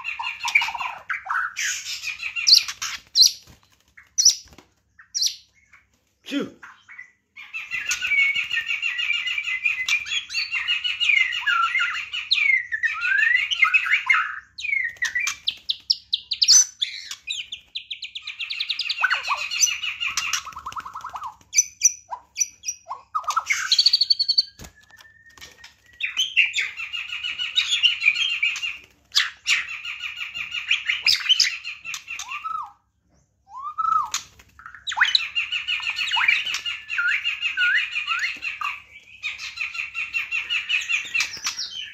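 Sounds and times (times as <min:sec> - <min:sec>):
bird singing trills and whistles: 0:00.0 - 0:05.8, 0:06.6 - 0:41.9.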